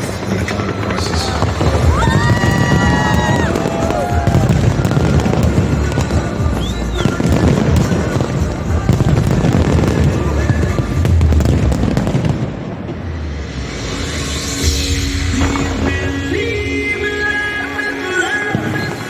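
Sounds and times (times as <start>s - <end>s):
fireworks bangs and crackling: 0.0s - 19.0s
soundtrack music: 0.0s - 19.0s.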